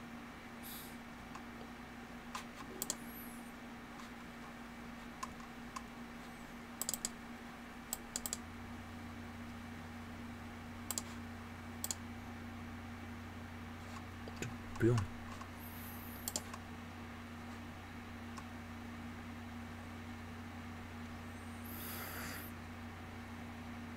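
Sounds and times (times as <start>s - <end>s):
low electrical hum: 0.0s - 23.9s.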